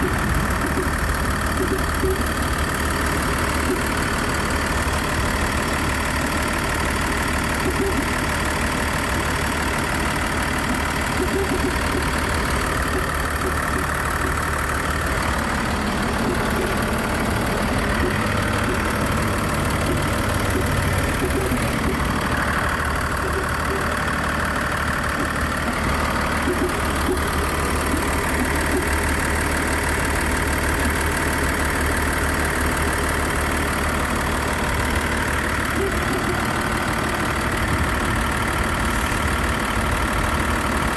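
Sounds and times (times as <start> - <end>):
abnormal car noise: 0.0 - 40.9
car engine humming: 0.0 - 40.9.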